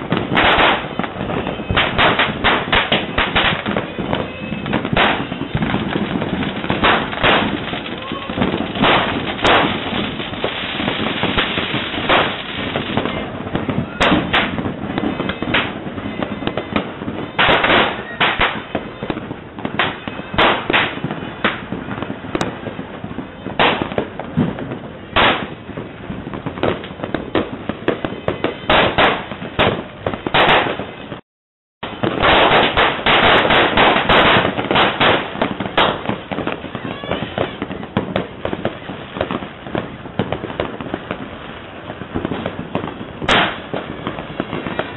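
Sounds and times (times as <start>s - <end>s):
fireworks crackling: 0.0s - 31.2s, 31.8s - 44.9s
loud firework bangs: 0.0s - 31.2s, 31.8s - 44.9s.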